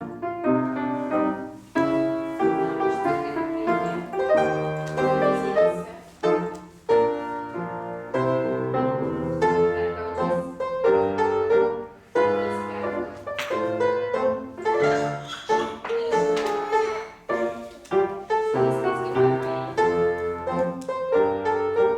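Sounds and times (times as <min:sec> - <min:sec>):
piano playing dance rhythm: 0:00.0 - 0:21.9.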